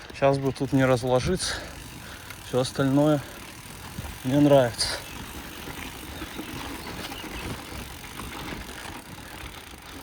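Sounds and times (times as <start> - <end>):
bicycle rolling over rough ground: 0.0 - 10.0
bike rattling: 0.0 - 10.0.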